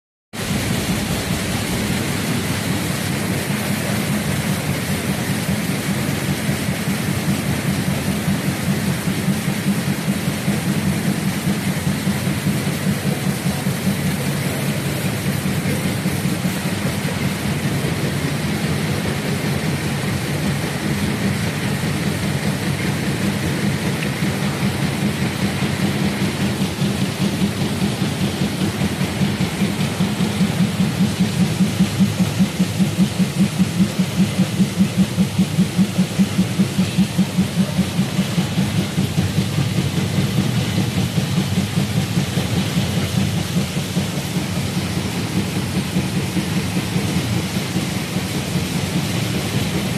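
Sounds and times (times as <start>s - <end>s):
constant hiss: 0.4s - 49.9s
printing machine running: 0.4s - 49.9s.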